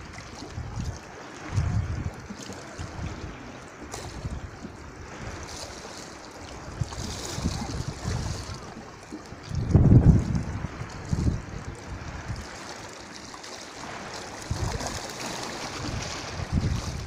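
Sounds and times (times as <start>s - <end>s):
sea waves lapping over rocks: 0.0s - 17.0s
wind buffeting microphone: 0.0s - 17.0s.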